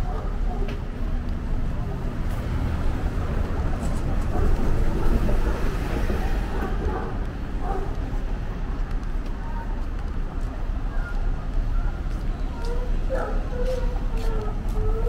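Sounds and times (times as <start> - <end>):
passing vehicles rumbling: 0.2 - 15.0.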